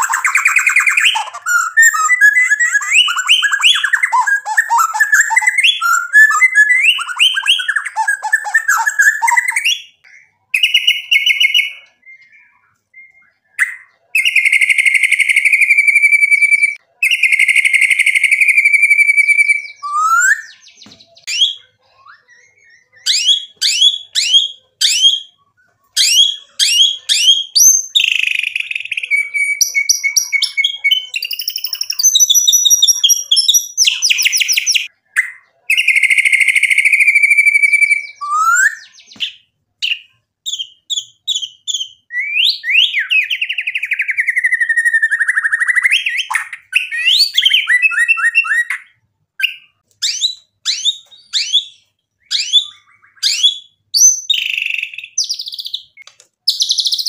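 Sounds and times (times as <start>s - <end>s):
bird singing whistles and trills: 0.0s - 57.0s.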